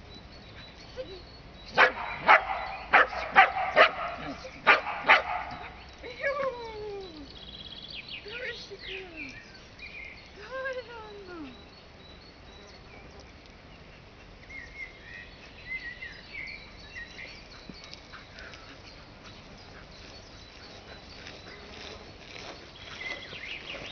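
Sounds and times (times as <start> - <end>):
faint bird chirps: 0.0 - 23.9.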